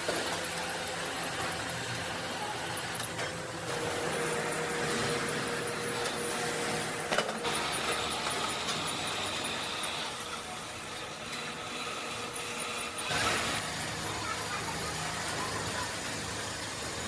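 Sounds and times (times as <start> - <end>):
machine tool running: 0.0 - 17.0.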